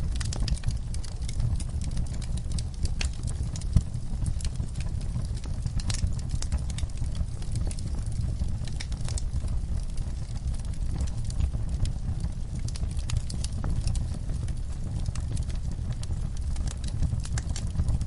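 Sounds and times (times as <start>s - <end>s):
fire logs popping and snapping: 0.0s - 18.0s
low rumble of flames: 0.0s - 18.0s.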